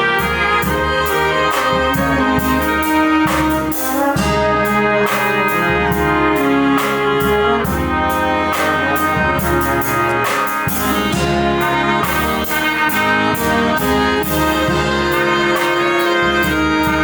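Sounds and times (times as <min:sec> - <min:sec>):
brass band playing upbeat tune: 0:00.0 - 0:17.0.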